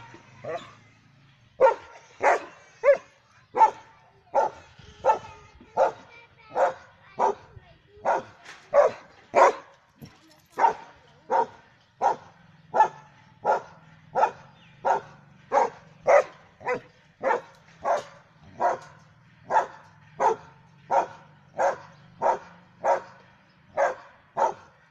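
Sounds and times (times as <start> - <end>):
dog barking: 0.4 - 0.8, 1.6 - 9.7, 10.6 - 24.8.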